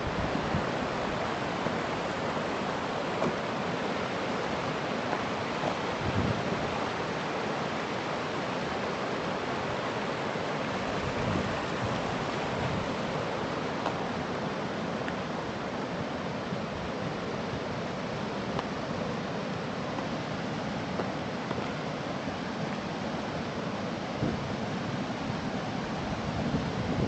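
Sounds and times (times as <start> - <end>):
river water rushing over rock: 0.0 - 27.0.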